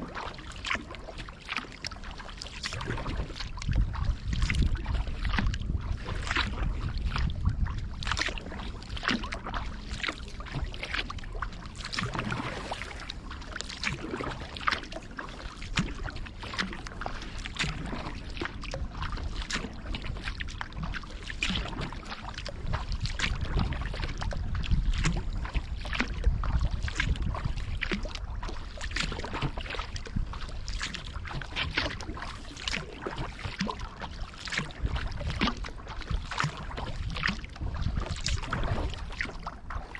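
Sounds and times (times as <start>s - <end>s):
paddle strokes splashing water: 0.0s - 39.9s
water dripping off paddle: 0.2s - 24.3s, 24.9s - 26.2s, 30.4s - 39.9s.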